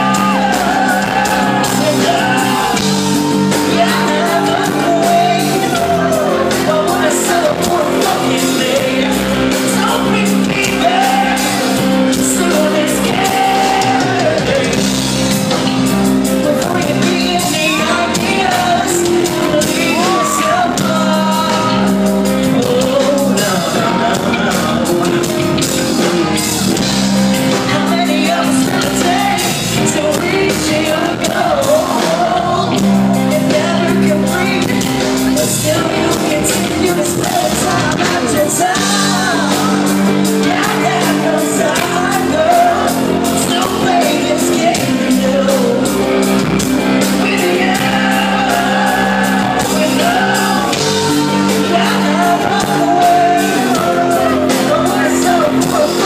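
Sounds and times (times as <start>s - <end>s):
live rock band: 0.0s - 56.0s
man singing: 0.0s - 56.0s.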